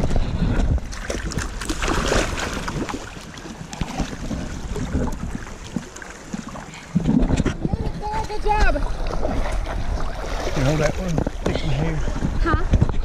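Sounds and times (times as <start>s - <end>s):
muddy water sloshing: 0.0s - 13.0s.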